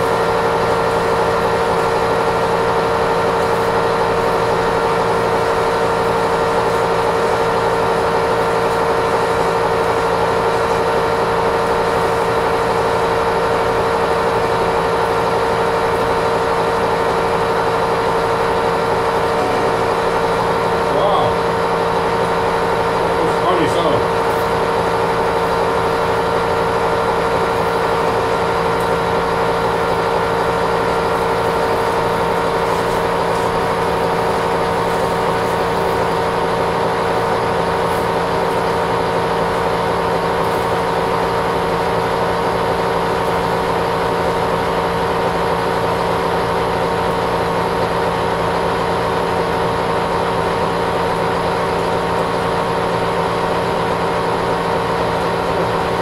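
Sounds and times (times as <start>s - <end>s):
metal lathe gear hum: 0.0s - 56.0s.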